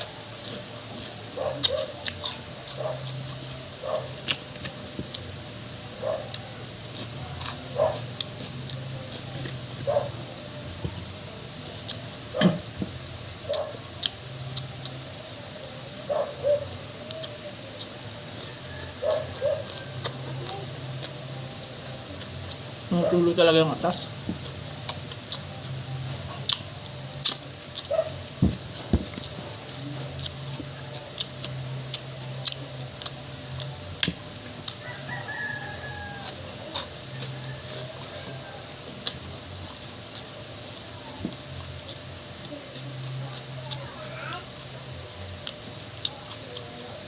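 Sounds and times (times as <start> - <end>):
chewing and mouth noises: 0.0 - 5.3, 6.0 - 12.8, 13.4 - 15.6, 16.2 - 23.3, 24.0 - 47.0
low steady hum: 0.0 - 47.0.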